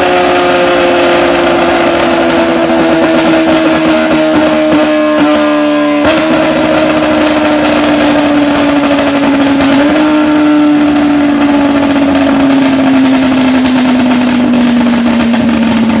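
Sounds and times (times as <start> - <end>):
loud motorcycle exhaust: 0.0 - 16.0.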